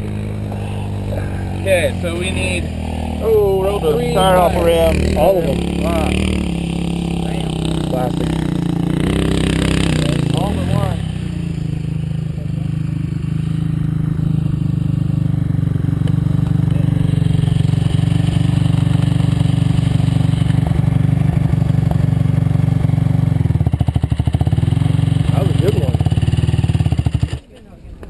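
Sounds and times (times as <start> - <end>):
vehicle engine idling: 0.0 - 27.5.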